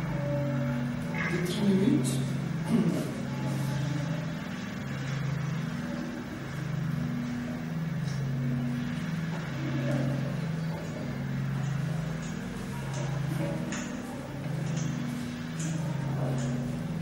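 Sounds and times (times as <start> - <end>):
low droning soundtrack tones: 0.0 - 17.0.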